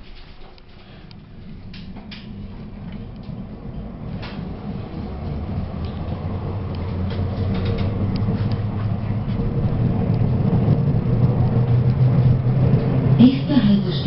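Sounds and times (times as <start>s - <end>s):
light rattles and clicks: 0.0s - 4.7s, 5.8s - 13.0s
tram rumbling: 0.0s - 14.0s.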